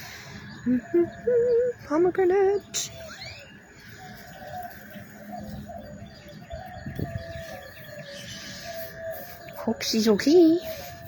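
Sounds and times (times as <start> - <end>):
lower wavering animal calls: 0.2 - 11.0.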